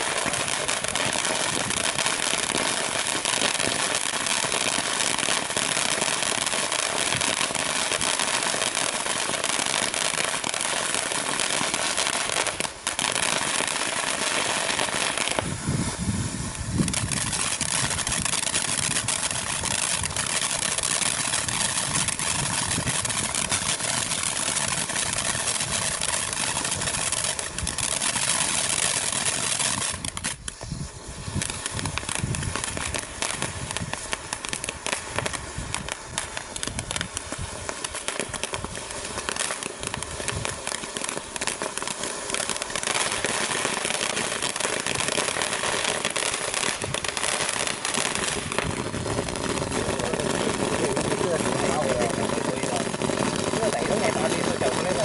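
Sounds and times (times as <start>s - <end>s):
firework crackling: 0.0s - 55.0s
firework fountain hissing: 0.0s - 55.0s.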